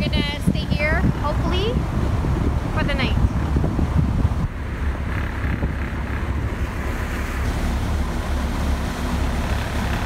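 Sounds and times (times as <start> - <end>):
motor boat rumble: 0.0 - 10.0
water rushing past hull: 0.0 - 10.0
wind on microphone: 0.0 - 10.0.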